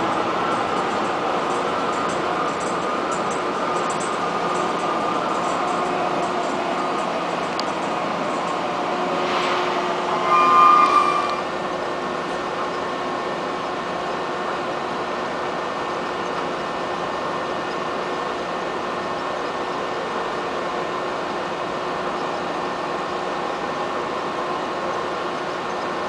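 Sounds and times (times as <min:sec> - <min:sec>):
rumble and hum of trains: 0:00.0 - 0:26.0.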